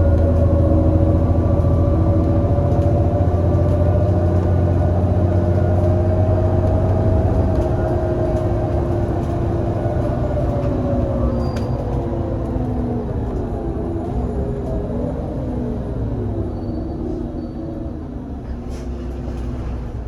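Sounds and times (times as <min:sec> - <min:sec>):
bus engine pulling: 0:00.0 - 0:20.0.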